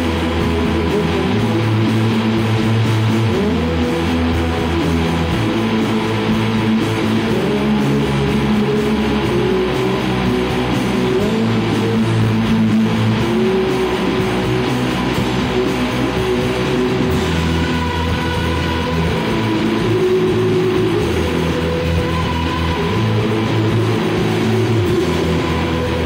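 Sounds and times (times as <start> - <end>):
bass: 0.0 - 26.0
distorted electric guitars: 0.0 - 26.0.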